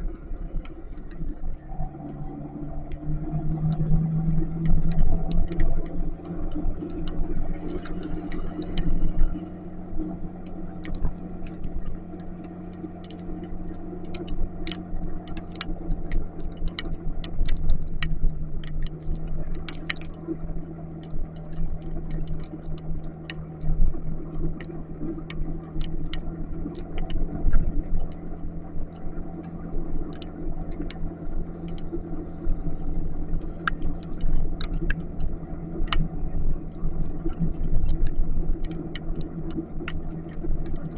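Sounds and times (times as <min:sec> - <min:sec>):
raindrops ticking on microphone: 0:00.0 - 0:40.9
wind and road rumble: 0:00.0 - 0:40.9.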